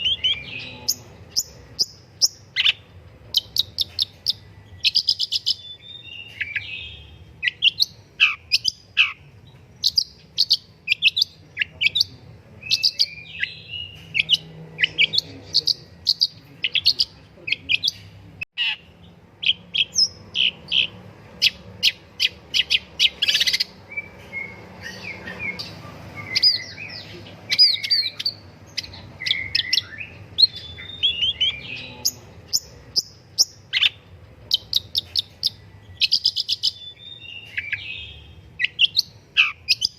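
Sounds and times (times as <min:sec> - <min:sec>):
bird singing high chips: 0:00.0 - 0:12.1, 0:12.7 - 0:39.9.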